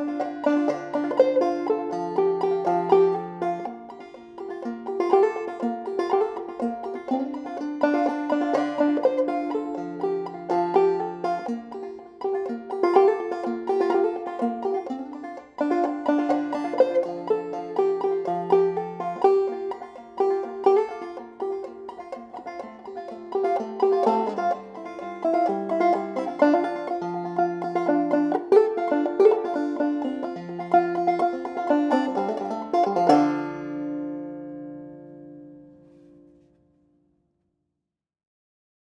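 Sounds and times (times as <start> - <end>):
banjo playing plucked notes: 0.0 - 36.5.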